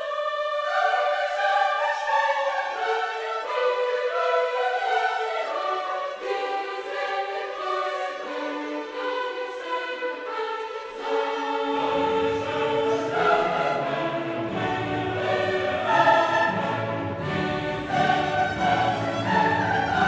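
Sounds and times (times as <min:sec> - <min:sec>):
choral orchestral music: 0:00.0 - 0:20.0.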